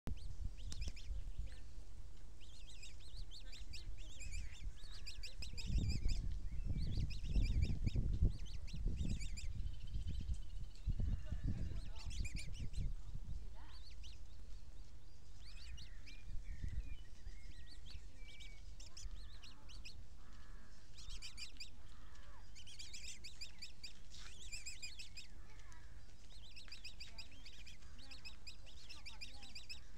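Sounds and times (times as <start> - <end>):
birds chirping: 0.1 - 29.9.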